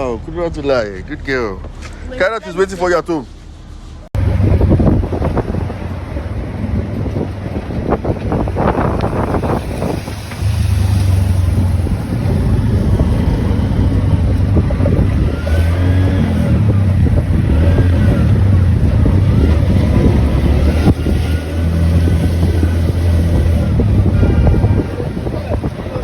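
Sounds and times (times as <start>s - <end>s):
car engine and road rumble: 0.0s - 26.0s
wind noise: 3.2s - 26.0s.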